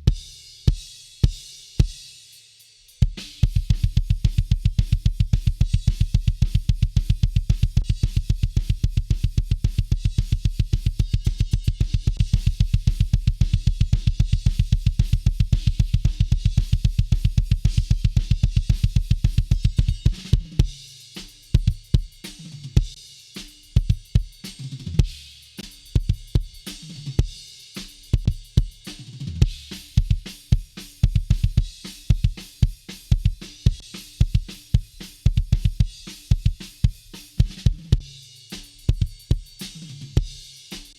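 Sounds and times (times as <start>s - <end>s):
cymbals: 0.0s - 40.9s.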